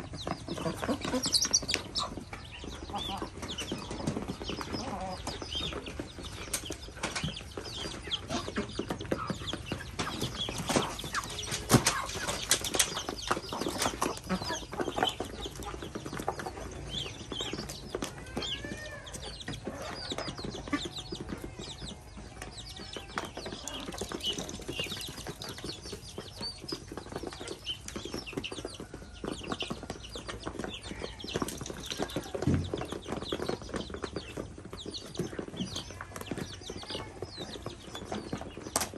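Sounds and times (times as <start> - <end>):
chickens clucking softly: 0.0 - 38.9
chicks peeping: 0.0 - 38.9.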